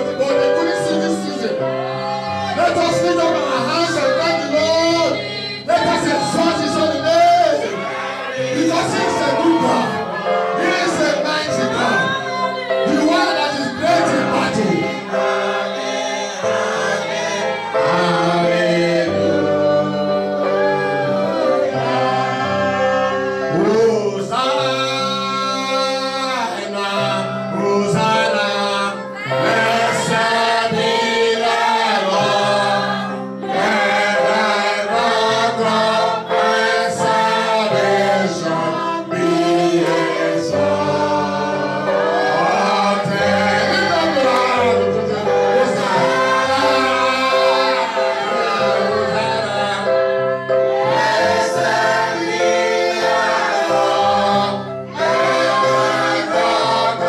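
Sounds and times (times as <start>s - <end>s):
congregation singing: 0.0s - 57.0s
sustained accompanying chords: 0.0s - 57.0s.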